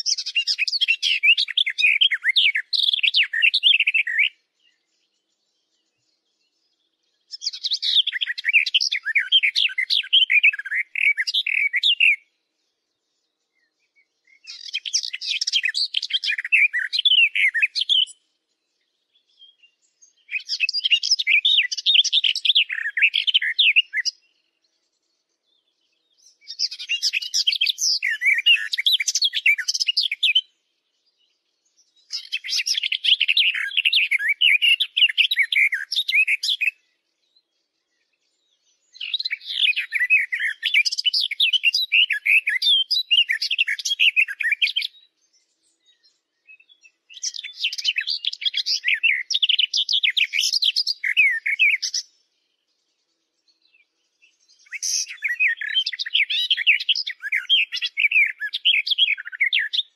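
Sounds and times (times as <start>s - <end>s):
small birds twittering: 0.0s - 59.9s.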